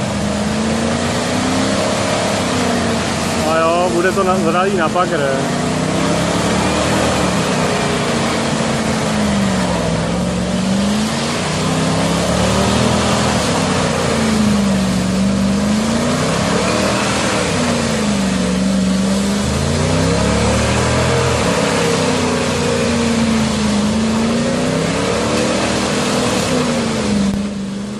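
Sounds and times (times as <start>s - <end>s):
engine revving in mud: 0.0s - 27.9s.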